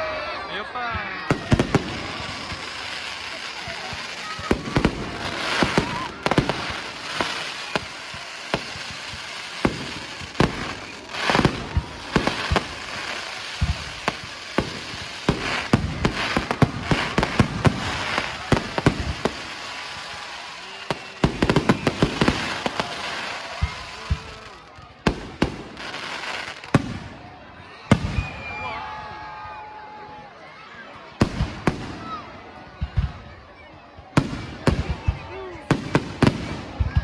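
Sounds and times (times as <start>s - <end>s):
fireworks bangs and cracks: 0.1s - 29.4s, 31.2s - 37.0s.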